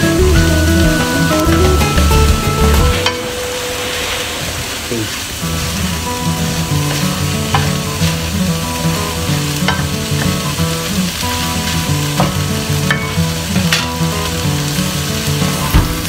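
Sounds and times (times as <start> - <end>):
cabbage sizzling in a frying pan: 0.0 - 16.0.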